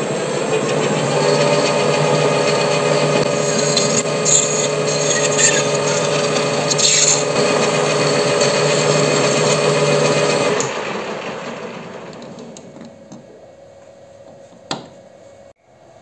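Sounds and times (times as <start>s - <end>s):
lathe chuck spinning down: 0.0s - 13.2s
lathe running: 0.0s - 13.3s.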